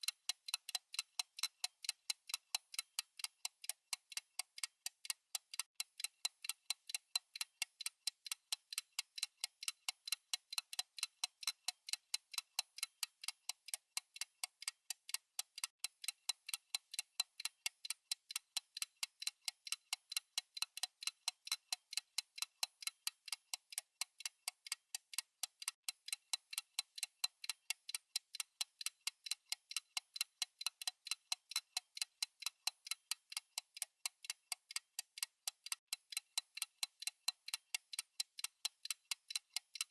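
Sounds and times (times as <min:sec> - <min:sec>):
fast clock ticking: 0:00.0 - 0:39.9.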